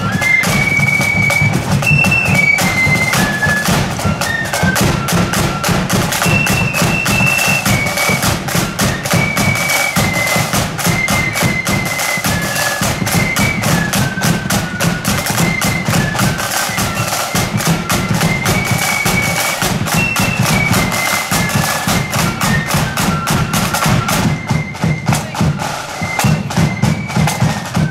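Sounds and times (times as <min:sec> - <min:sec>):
flutes playing melody: 0:00.0 - 0:27.9
rapid snare drumming: 0:00.0 - 0:27.9.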